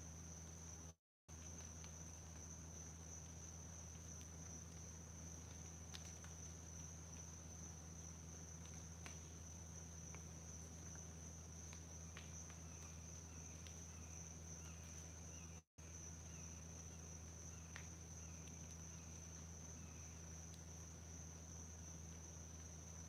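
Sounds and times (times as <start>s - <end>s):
low steady hum: 0.0s - 23.0s
short insect chirp: 0.0s - 23.0s.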